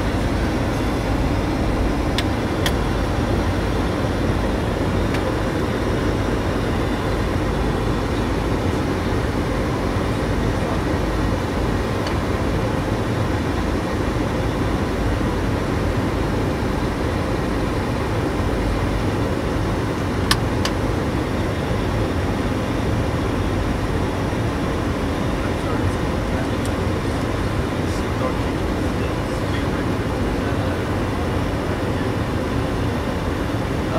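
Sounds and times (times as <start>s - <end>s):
aircraft engine hum: 0.0s - 33.9s
airflow rushing in cockpit: 0.0s - 33.9s.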